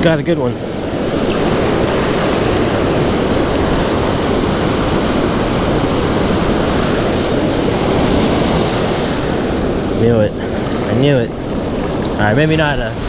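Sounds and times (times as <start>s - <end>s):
surf breaking on beach: 0.0s - 13.0s
wind rumbling on microphone: 0.0s - 13.0s.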